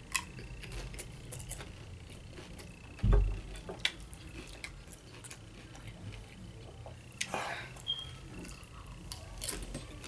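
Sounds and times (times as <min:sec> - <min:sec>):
chewing crunchy chips: 0:00.0 - 0:10.0.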